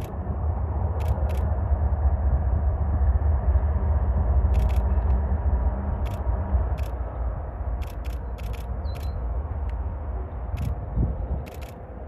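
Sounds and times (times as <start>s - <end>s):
diesel locomotives rumbling: 0.0s - 12.0s.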